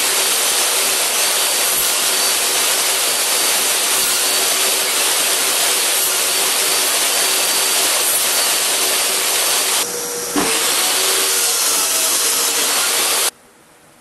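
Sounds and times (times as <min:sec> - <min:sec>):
table saw whirring: 0:00.0 - 0:13.3.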